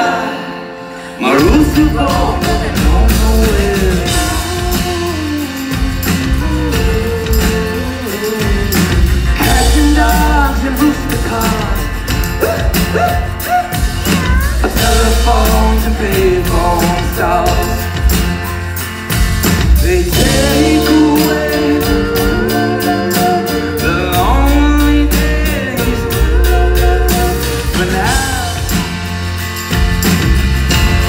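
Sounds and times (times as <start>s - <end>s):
person singing: 0.0s - 18.8s, 19.5s - 29.1s
acoustic guitar: 0.0s - 31.0s
live band playing: 0.0s - 31.0s
steady drum beat: 1.4s - 31.0s.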